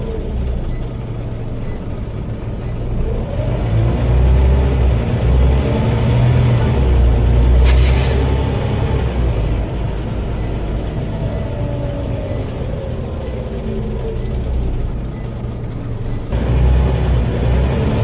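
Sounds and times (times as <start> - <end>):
bus diesel engine rumble: 0.0 - 18.0.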